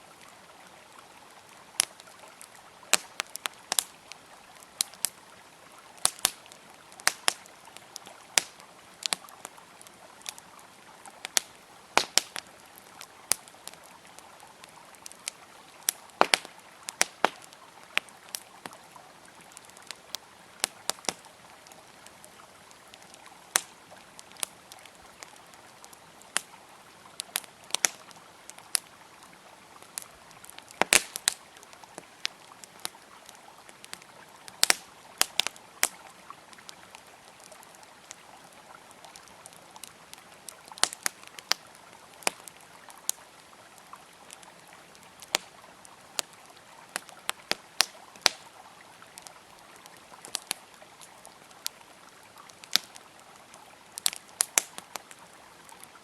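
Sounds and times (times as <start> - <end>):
campfire crackling and popping: 0.0 - 56.0
flowing river: 0.0 - 56.0.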